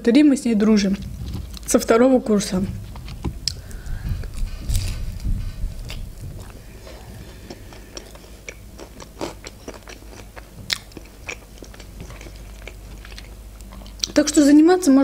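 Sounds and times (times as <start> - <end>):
biting and chewing food: 0.8 - 14.2.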